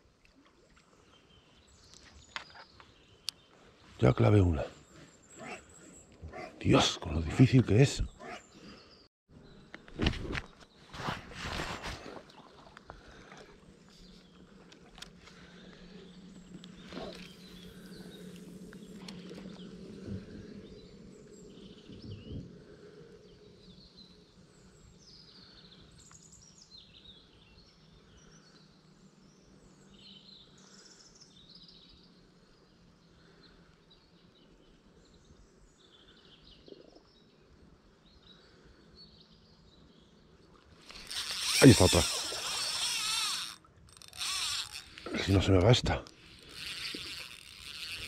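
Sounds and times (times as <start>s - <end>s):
faint outdoor background noise: 0.0s - 48.0s
small birds chirping: 1.0s - 11.1s, 12.4s - 48.0s.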